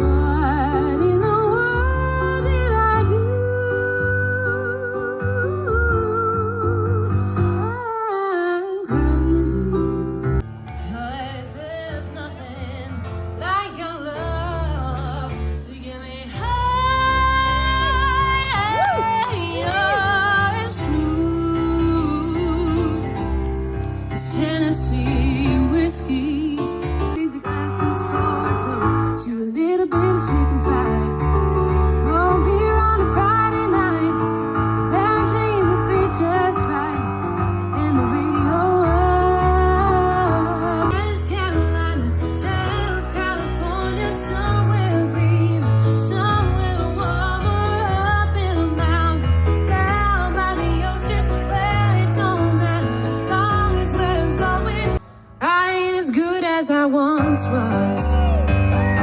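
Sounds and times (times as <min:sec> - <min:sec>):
woman singing: 0:00.0 - 0:31.3, 0:32.0 - 0:59.0
instrumental backing music: 0:00.0 - 0:59.0.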